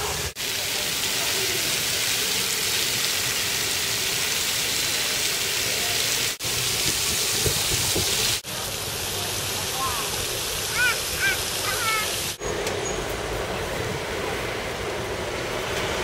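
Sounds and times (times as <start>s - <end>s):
fountain jets spraying water: 0.0s - 16.0s.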